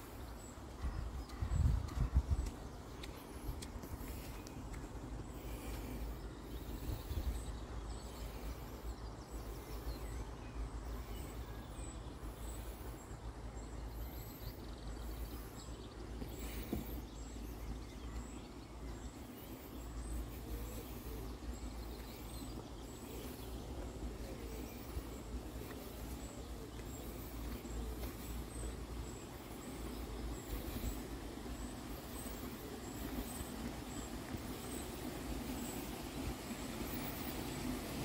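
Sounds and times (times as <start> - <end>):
faint birdsong and chirps: 0.0 - 38.0.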